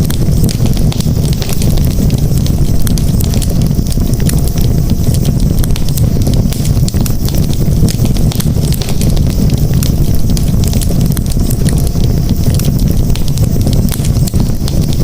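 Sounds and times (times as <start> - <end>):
campfire flames rumbling: 0.0 - 15.0
fire crackles: 0.0 - 15.0.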